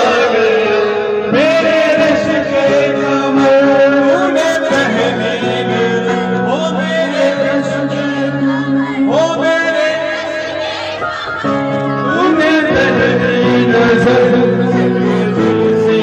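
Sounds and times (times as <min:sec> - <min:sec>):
electronic keyboard accompaniment: 0:00.0 - 0:16.0
man singing into a microphone: 0:00.0 - 0:16.0.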